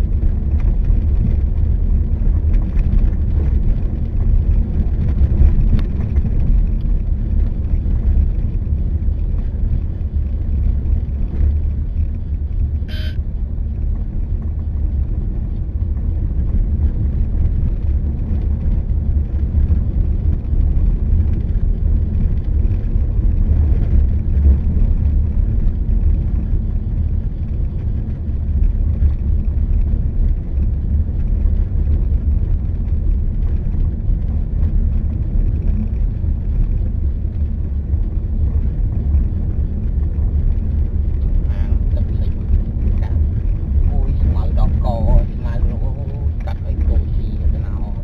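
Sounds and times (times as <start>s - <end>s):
vehicle wind and road noise: 0.0s - 48.0s.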